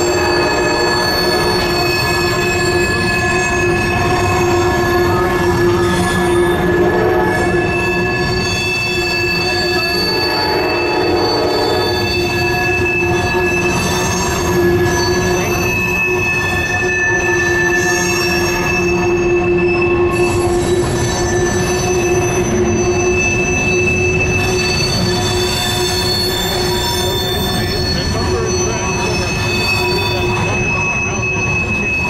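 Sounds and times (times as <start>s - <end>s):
train wheels squealing: 0.0s - 32.0s
wheels rumbling on rail: 0.0s - 32.0s.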